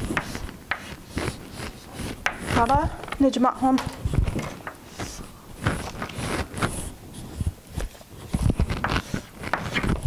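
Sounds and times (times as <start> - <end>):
chalk scraping on blackboard: 0.0 - 3.0, 4.1 - 10.0.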